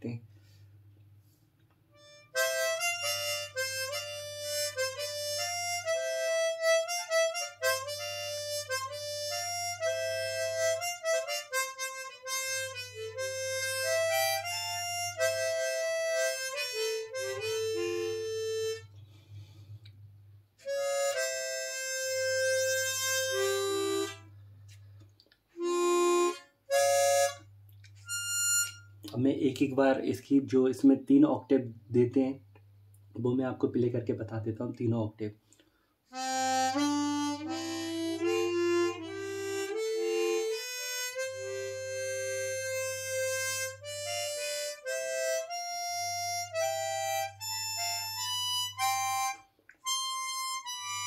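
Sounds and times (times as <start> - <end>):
harmonica melody: 1.9 - 19.9, 20.6 - 29.2, 36.1 - 51.0.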